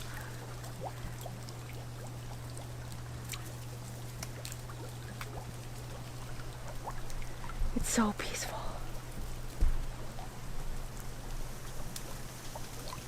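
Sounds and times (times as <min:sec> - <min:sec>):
steady low hum: 0:00.0 - 0:13.0
water trickling in a pond: 0:00.0 - 0:13.0.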